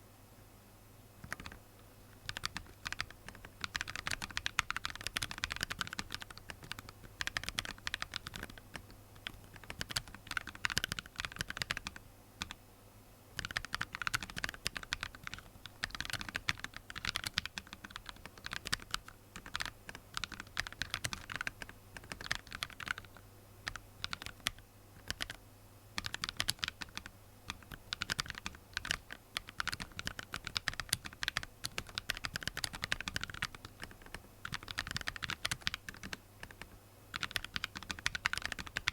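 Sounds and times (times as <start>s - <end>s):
keyboard typing: 1.2s - 12.6s, 13.4s - 25.4s, 26.0s - 38.9s.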